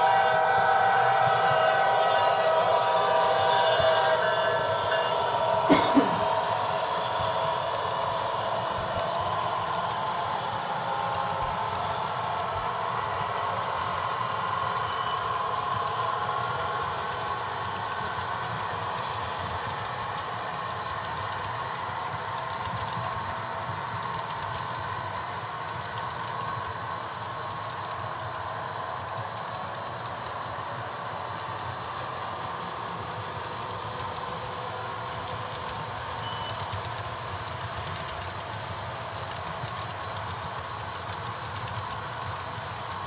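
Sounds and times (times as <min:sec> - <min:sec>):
model train cars rolling: 0:00.0 - 0:43.0
wheels clicking on track: 0:00.0 - 0:43.0.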